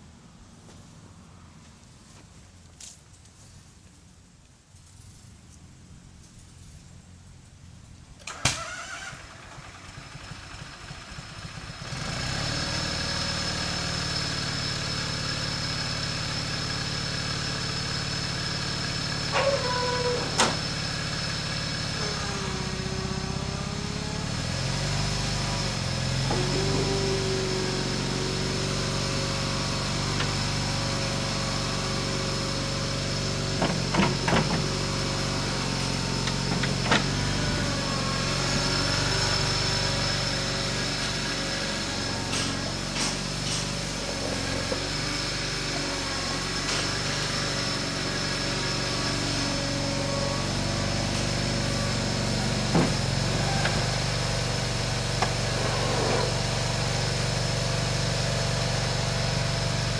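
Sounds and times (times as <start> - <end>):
skid-steer loader engine running: 4.9 - 59.9.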